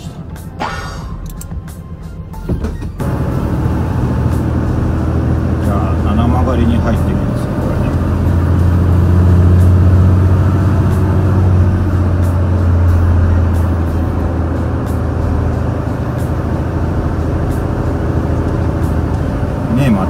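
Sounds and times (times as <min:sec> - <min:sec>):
truck diesel engine pulling hard: 0:00.0 - 0:20.0.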